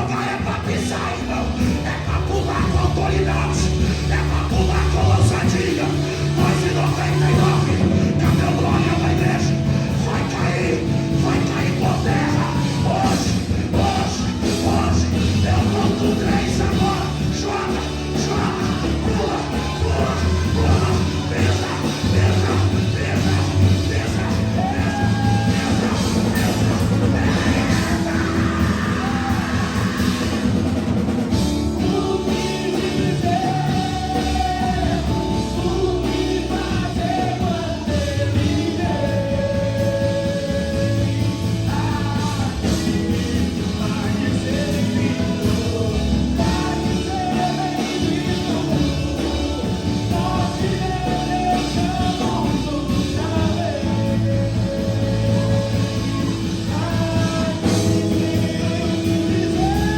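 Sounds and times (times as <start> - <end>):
drums: 0.0 - 59.9
worship band music: 0.0 - 59.9.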